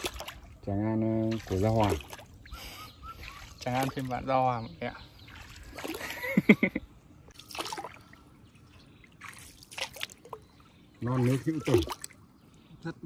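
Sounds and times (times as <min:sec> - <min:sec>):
water splashing around boat: 0:00.0 - 0:12.7.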